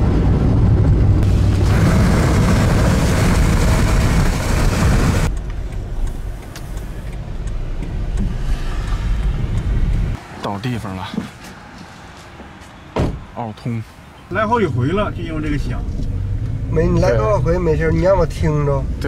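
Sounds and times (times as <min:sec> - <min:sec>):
van engine and road rumble: 0:00.0 - 0:19.0.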